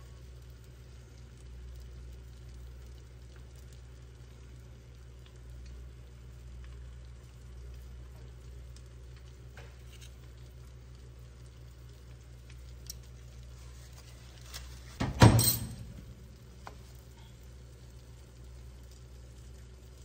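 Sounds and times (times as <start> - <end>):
eggs frying in a pan: 0.0 - 15.0, 15.9 - 20.0
low steady hum: 0.0 - 20.0.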